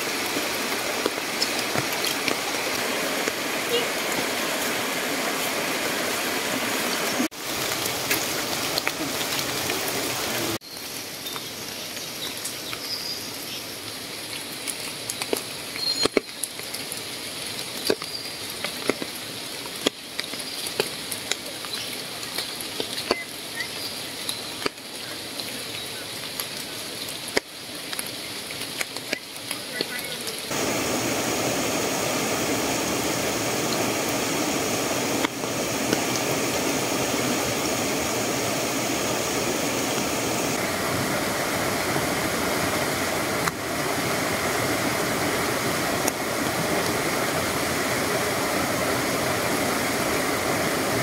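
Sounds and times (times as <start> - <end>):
stream running over rocks: 0.0 - 51.0
water drops on wet leaves: 0.0 - 51.0.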